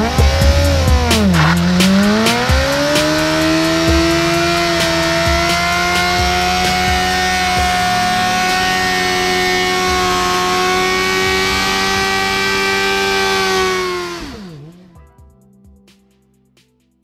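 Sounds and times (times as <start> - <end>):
motorcycle engine at high revs: 0.0 - 14.9.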